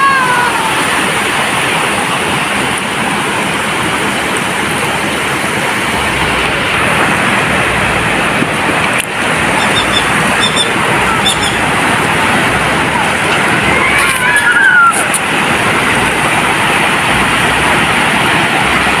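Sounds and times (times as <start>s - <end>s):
sea surf washing ashore: 0.0s - 19.0s.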